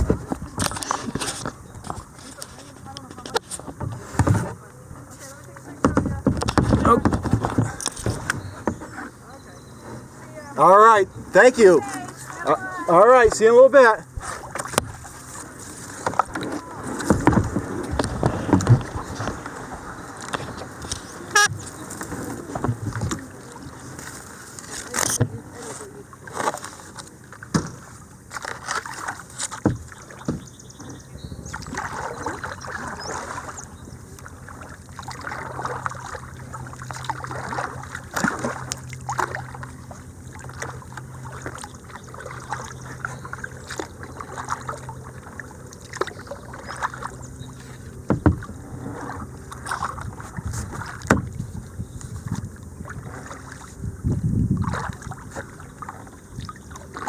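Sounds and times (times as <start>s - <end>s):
water splashing around kayak: 0.0s - 57.0s.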